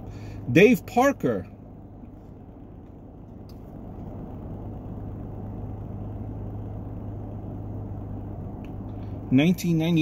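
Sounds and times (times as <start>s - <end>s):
constant hum: 0.0s - 10.0s
low rumble in car cabin: 0.0s - 10.0s.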